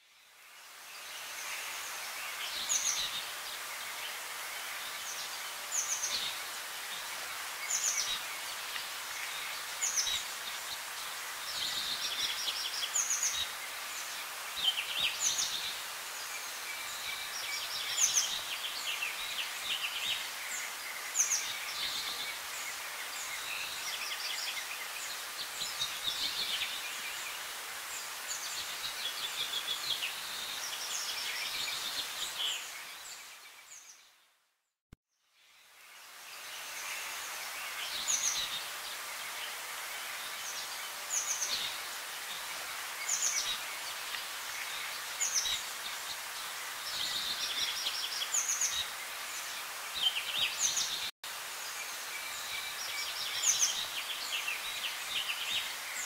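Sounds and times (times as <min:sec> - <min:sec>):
steady background hiss: 0:00.0 - 0:34.1, 0:35.4 - 0:56.0.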